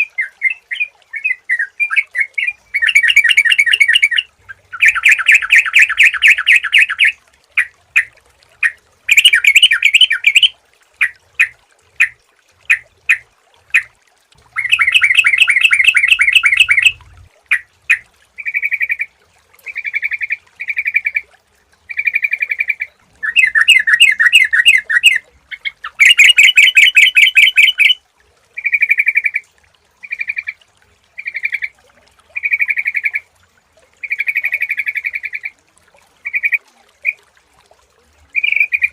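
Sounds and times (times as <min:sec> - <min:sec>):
bulbul bubbling song: 0:00.0 - 0:38.9.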